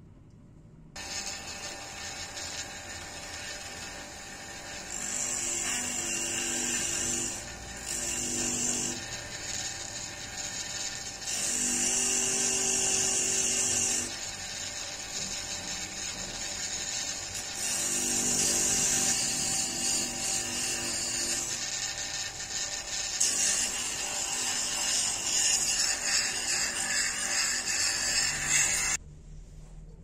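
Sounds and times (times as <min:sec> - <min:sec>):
electric motor spinning sanding drum: 0:01.0 - 0:29.0.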